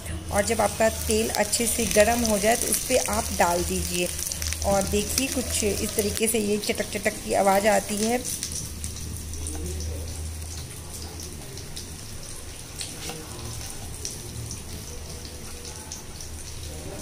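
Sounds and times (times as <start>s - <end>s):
fish sizzling in oil: 0.2s - 17.0s.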